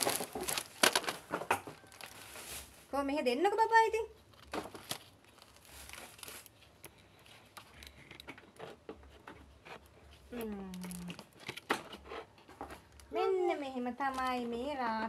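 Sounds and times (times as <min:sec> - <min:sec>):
faint rustling: 0:00.0 - 0:15.0.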